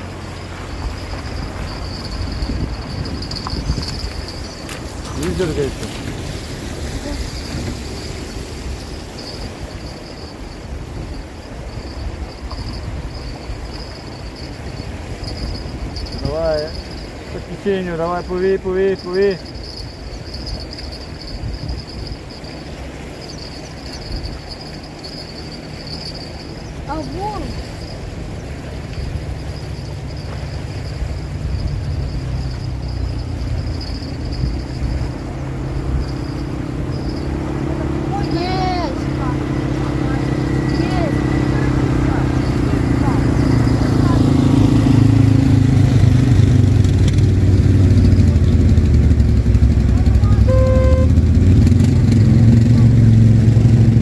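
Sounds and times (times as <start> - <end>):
engine droning: 0.0 - 54.0
insects chirring: 0.0 - 54.0
steady rushing outdoor noise: 0.0 - 54.0.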